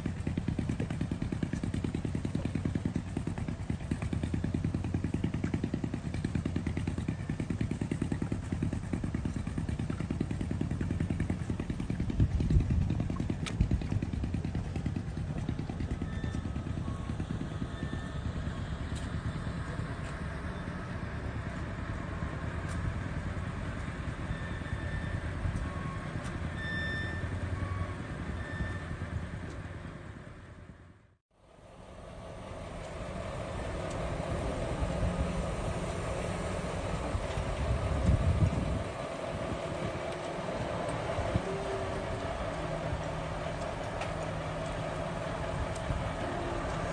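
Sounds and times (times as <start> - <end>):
engine running at low revs: 0.0 - 46.9.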